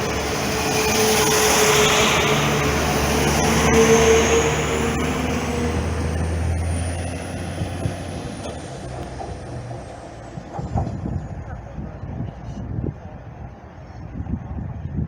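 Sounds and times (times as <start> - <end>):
diesel train engine drone: 0.0 - 15.0.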